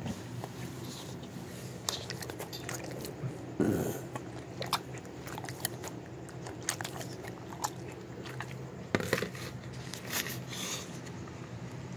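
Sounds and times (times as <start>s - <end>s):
dog chewing food: 0.4s - 10.6s.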